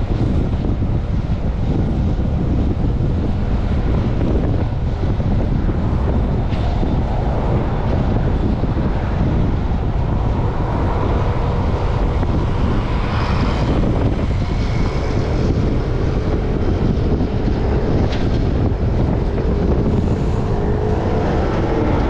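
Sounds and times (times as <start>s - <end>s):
city traffic noise: 0.0s - 22.0s
wind buffeting microphone: 0.0s - 22.0s.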